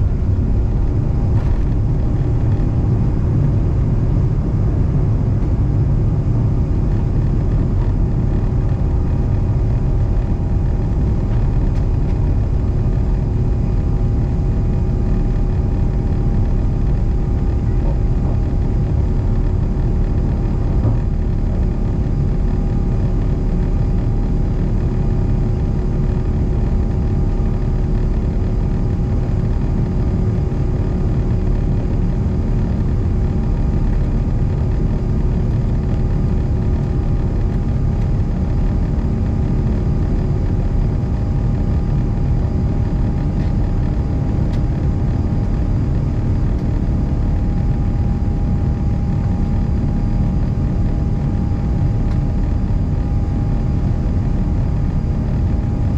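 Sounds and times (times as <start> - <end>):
jet engines and airflow rumble: 0.0 - 55.9
lower hum: 0.0 - 55.9
steady hum: 0.0 - 55.9.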